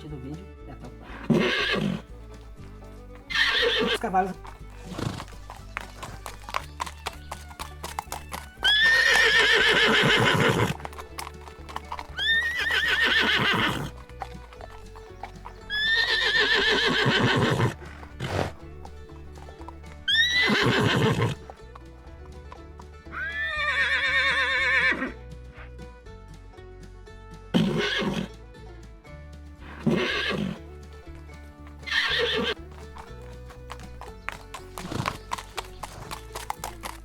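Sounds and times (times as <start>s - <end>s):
background music: 0.0s - 37.0s
hooves clip-clopping: 0.0s - 37.0s
horse neighing: 1.0s - 21.6s, 23.1s - 25.2s, 27.5s - 28.3s, 29.6s - 30.7s, 31.7s - 37.0s.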